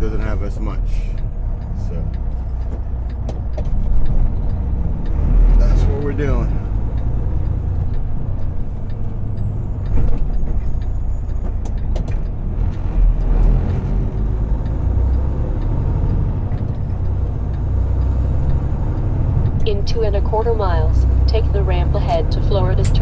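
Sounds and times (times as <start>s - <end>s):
diesel truck engine running: 0.0s - 23.0s
road noise inside cab: 0.0s - 23.0s.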